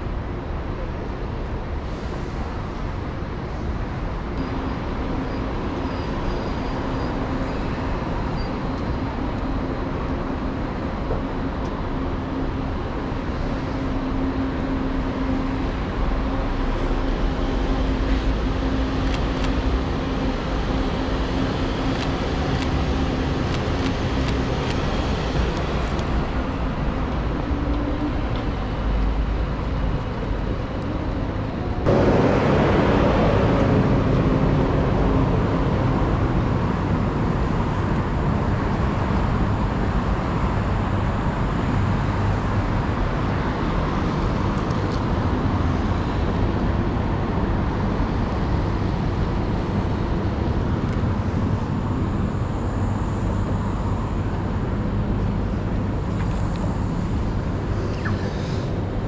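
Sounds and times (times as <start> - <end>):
cars rumbling on wet roads: 1.2 - 57.8.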